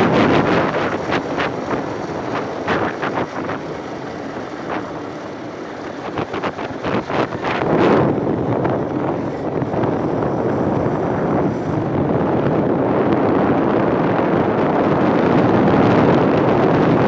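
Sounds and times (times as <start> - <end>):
motorcycle running: 0.0 - 17.0
road noise: 0.0 - 17.0
wind gusts on microphone: 0.0 - 17.0.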